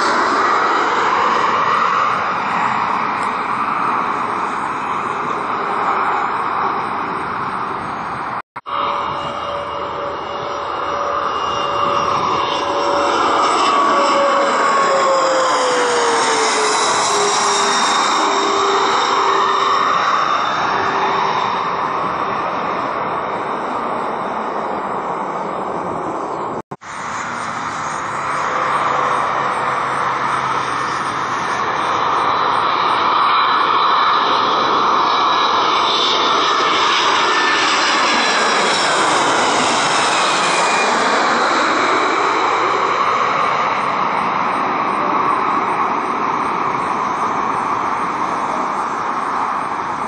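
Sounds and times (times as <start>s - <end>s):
jet engine rumble with whine: 0.0s - 50.0s.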